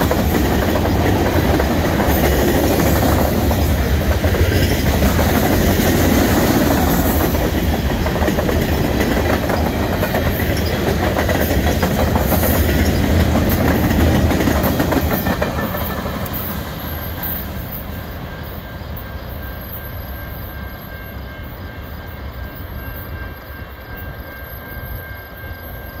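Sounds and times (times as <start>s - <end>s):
freight train cars rolling past: 0.0s - 26.0s.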